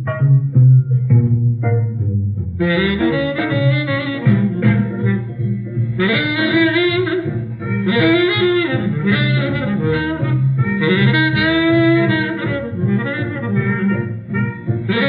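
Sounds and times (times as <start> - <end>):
jazz band playing blues: 0.0 - 15.0
horn playing phrases: 2.6 - 15.0.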